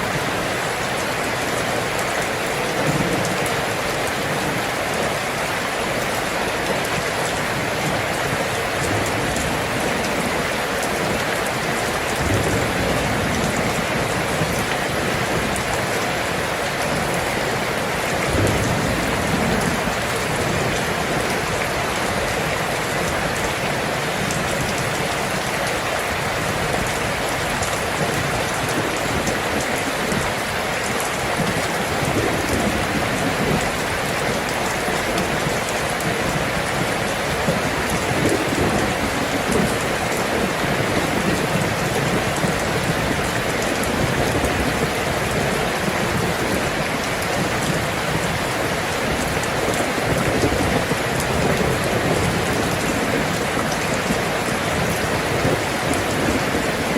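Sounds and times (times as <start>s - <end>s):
dense rainfall: 0.0s - 56.9s.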